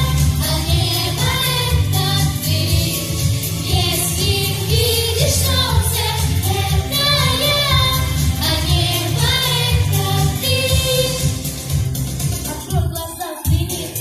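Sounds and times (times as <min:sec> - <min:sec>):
low musical accompaniment: 0:00.0 - 0:12.8.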